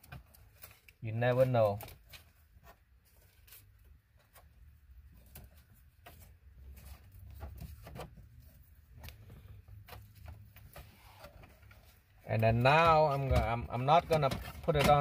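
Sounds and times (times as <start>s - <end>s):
rustling of wiring: 0.0s - 15.0s.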